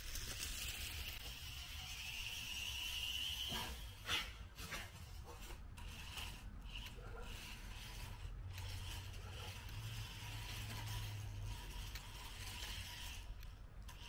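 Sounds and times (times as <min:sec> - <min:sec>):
toy car motor whining: 0:00.0 - 0:04.4, 0:05.4 - 0:14.0.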